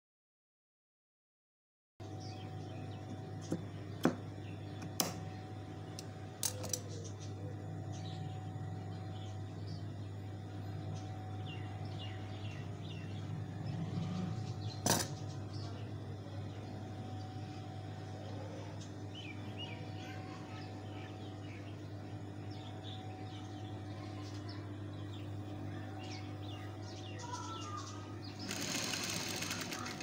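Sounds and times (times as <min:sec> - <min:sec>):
steady low hum: 0:02.0 - 0:30.0.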